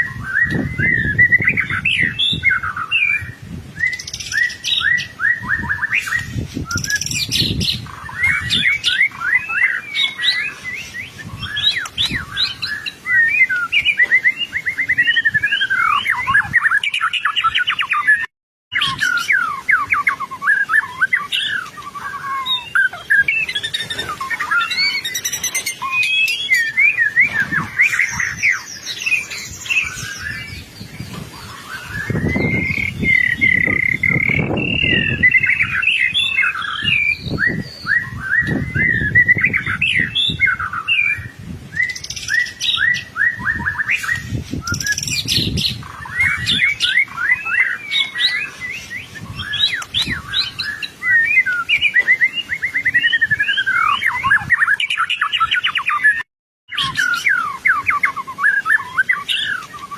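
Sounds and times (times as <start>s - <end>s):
bird singing whistles and trills: 0.0s - 59.9s.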